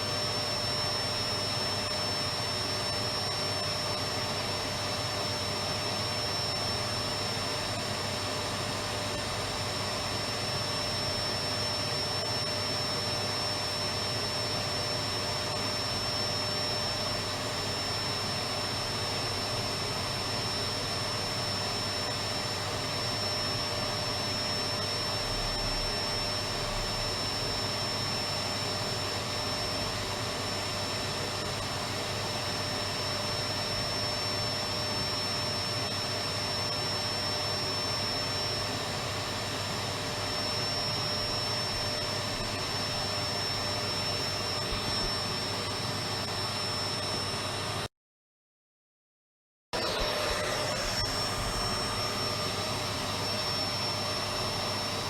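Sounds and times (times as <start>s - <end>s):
vacuum cleaner running: 0.0s - 47.9s, 49.8s - 55.0s.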